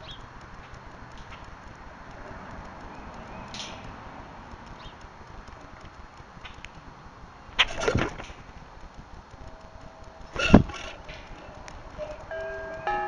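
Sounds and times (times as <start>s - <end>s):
birds knocking and fluttering: 0.0s - 6.9s, 7.5s - 12.8s.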